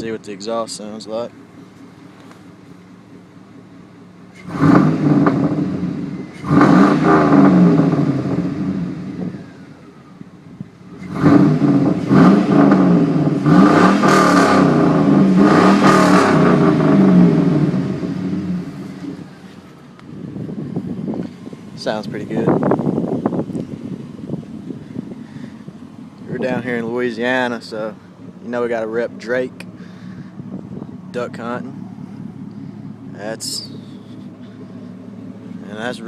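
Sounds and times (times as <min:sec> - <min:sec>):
pickup engine revving: 0:00.0 - 0:36.0.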